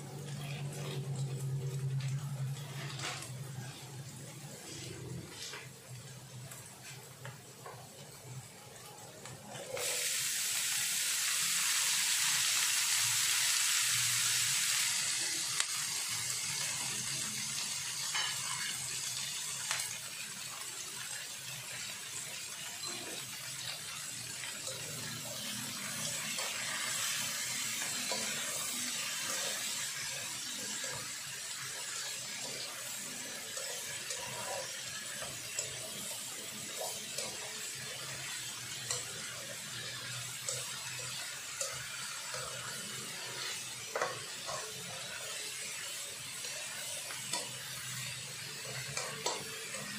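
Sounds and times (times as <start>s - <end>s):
vegetables sizzling in hot oil: 0.0s - 49.9s.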